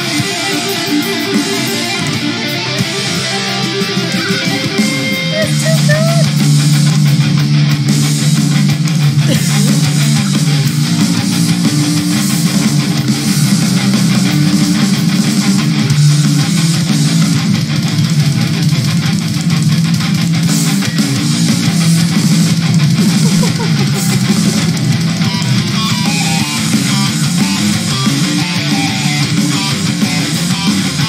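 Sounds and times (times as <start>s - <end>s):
bass guitar: 0.0s - 31.0s
distorted electric guitar: 0.0s - 31.0s
drums: 0.0s - 31.0s.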